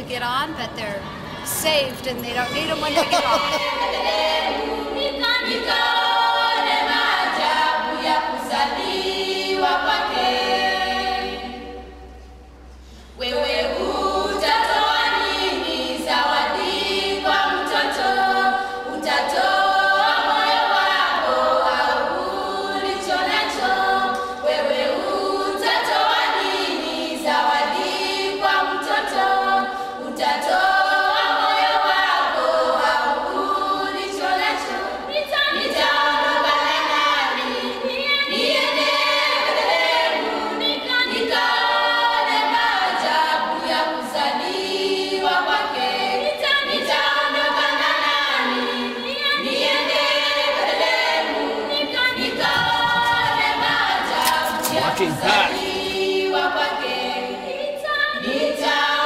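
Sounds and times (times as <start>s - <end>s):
choir singing unaccompanied: 2.3s - 59.0s.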